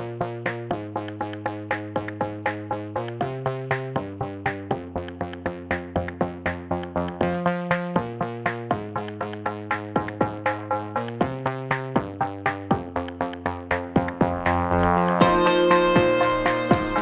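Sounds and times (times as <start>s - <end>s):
drum machine beat: 0.0s - 17.0s
synthesizer chords: 0.0s - 17.0s.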